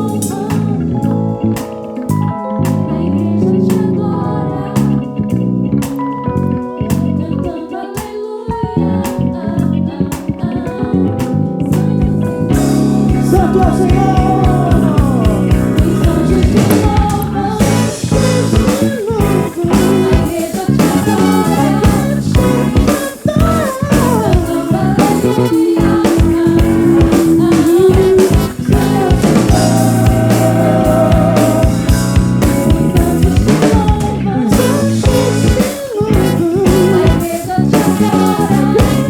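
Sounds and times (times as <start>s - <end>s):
lead melody line bending: 0.0s - 39.0s
soul-gospel band playing: 0.0s - 39.0s.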